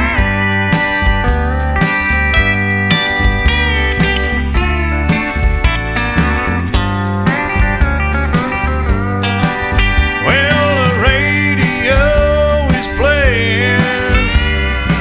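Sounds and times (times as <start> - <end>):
slide guitar: 0.0 - 15.0
steady drum beat: 0.0 - 15.0.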